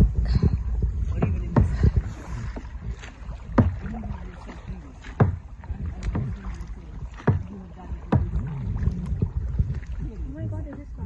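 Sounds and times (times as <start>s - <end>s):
paddle splashes: 0.0s - 11.0s
wind rumble on microphone: 0.0s - 11.0s.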